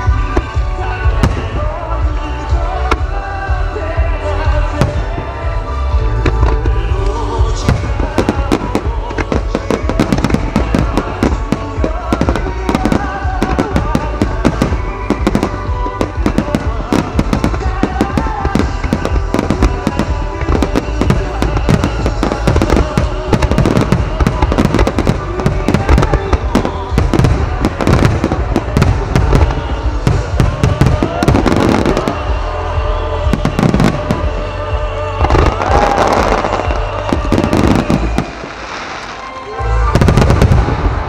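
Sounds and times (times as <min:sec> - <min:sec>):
fireworks bangs and crackles: 0:00.0 - 0:41.0
music: 0:00.0 - 0:41.0.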